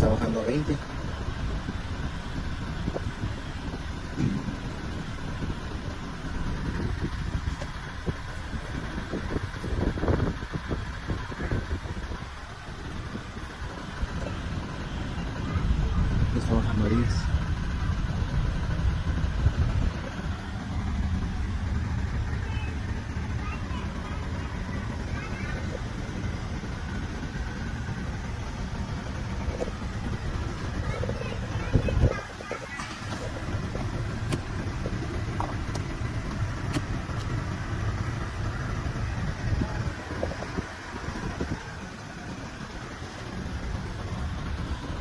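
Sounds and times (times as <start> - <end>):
air rushing from vents: 0.0 - 45.0
car engine idling: 0.0 - 45.0.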